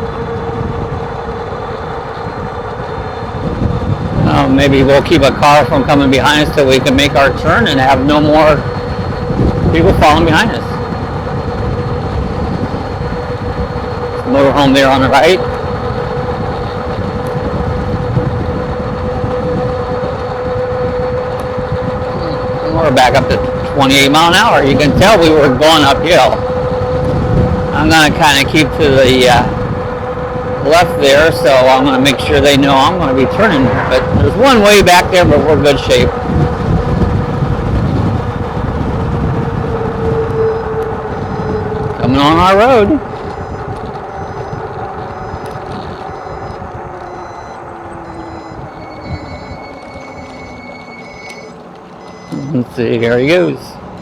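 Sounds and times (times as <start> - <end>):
electric motor whining: 0.0 - 54.0
wind rumbling on microphone: 0.0 - 54.0.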